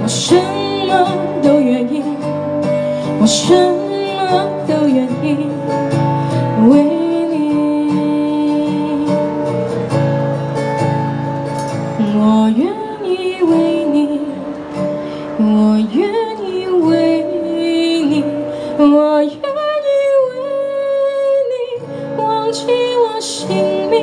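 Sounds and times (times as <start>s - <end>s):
woman singing ballad: 0.0s - 9.6s, 12.0s - 24.0s
acoustic guitar: 0.0s - 24.0s.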